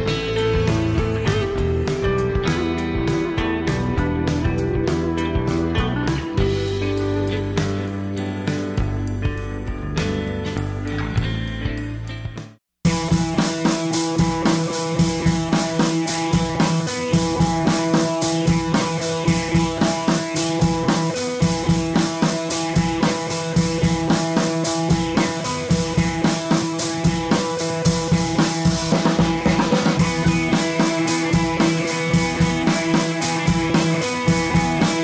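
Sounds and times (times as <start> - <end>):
background music with drum beat: 0.0 - 35.0.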